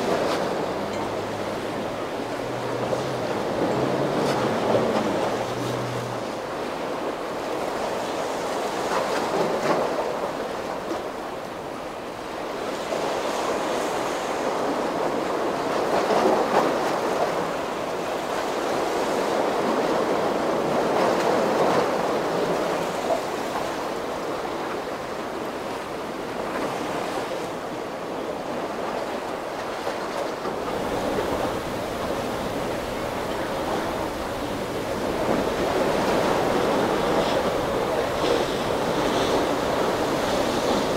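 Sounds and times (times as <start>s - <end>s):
breaking waves rushing: 0.0s - 40.9s.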